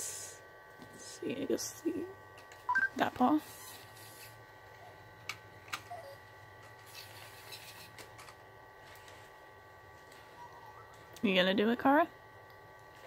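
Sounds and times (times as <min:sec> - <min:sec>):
faint electronic hum: 0:00.0 - 0:13.0.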